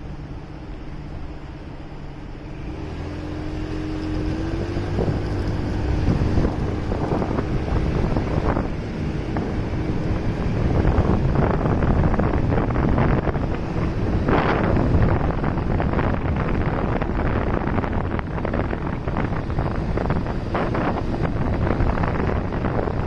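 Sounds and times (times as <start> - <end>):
motorcycle engine: 0.0 - 23.0
road noise: 0.0 - 23.0
wind buffeting microphone: 0.0 - 23.0.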